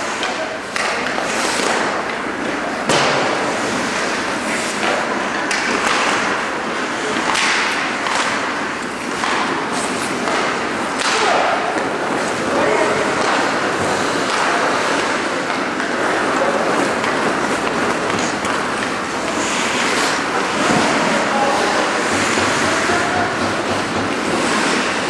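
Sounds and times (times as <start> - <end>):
skate blades scraping on ice: 0.0 - 2.7, 3.3 - 25.0
hockey sticks and puck knocking: 0.0 - 25.0.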